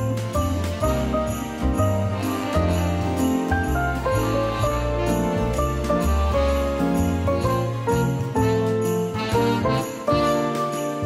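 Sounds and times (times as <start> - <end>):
upbeat christmas music: 0.0 - 11.0.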